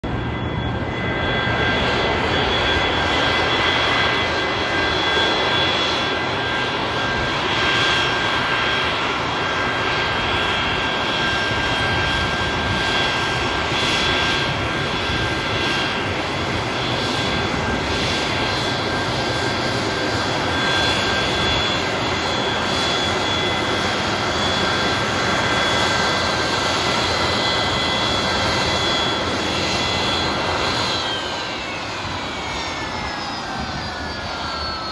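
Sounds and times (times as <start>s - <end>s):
high-pitched engine whine: 0.0s - 34.9s
jet engines idling: 0.0s - 34.9s.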